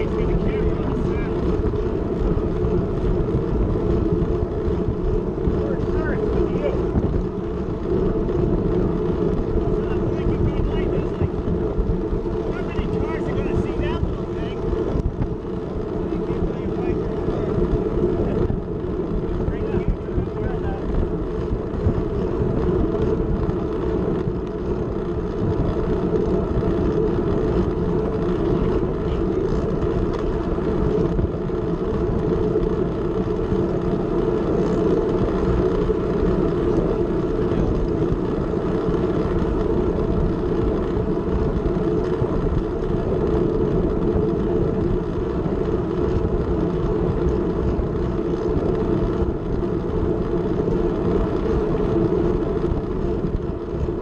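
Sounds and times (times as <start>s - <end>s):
bicycle tyre rumble: 0.0s - 54.0s
wind rushing: 0.0s - 54.0s.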